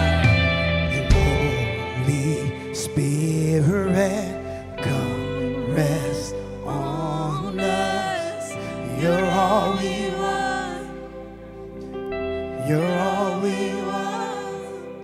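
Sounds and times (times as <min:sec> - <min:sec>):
person singing: 0:00.0 - 0:11.4, 0:12.4 - 0:15.0
sustained held chords: 0:00.0 - 0:15.0.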